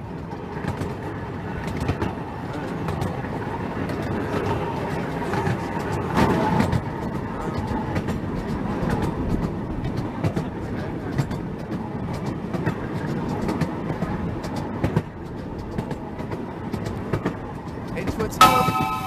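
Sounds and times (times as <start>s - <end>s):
small train rolling rumble: 0.0s - 19.0s.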